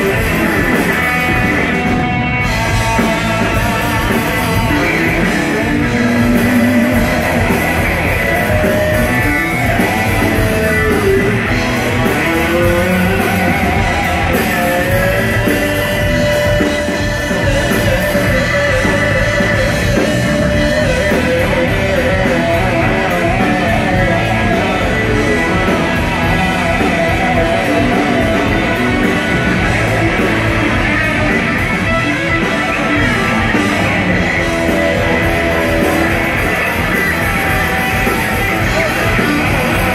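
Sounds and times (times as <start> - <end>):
bending lead guitar line: 0.0 - 39.9
blues-rock band playing: 0.0 - 39.9.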